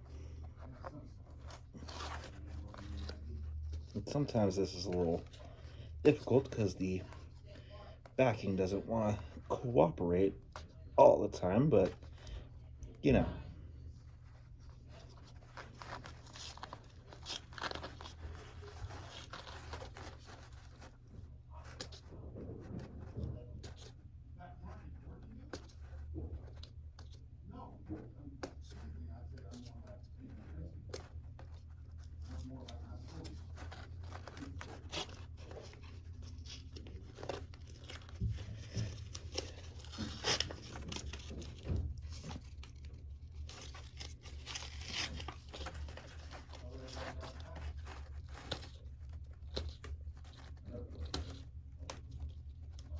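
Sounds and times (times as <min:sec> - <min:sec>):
paper peeling and crinkling: 0:00.0 - 0:52.9.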